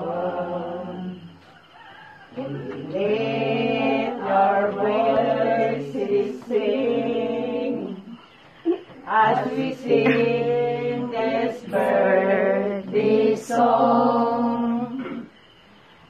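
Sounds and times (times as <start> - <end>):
voices chanting long notes: 0.0 - 1.5, 2.3 - 8.4, 9.0 - 15.3.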